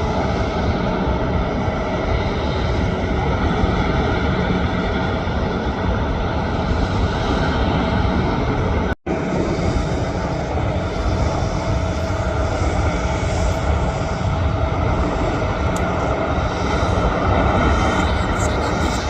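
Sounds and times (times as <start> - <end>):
jet airliner engines running: 0.0 - 19.0.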